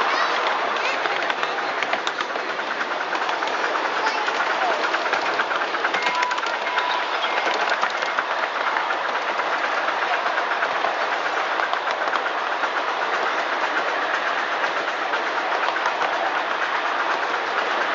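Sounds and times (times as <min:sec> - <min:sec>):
miniature train rattling on track: 0:00.0 - 0:17.9.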